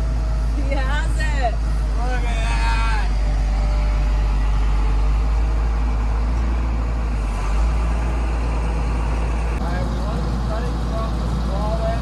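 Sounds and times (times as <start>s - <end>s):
excavator running: 0.0s - 12.0s.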